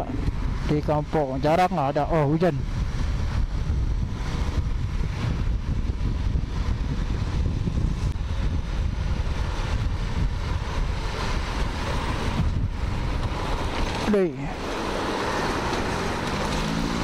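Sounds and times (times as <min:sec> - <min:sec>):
road noise: 0:00.0 - 0:17.0
wind rumble on microphone: 0:00.0 - 0:17.0
motorcycle engine: 0:02.6 - 0:17.0.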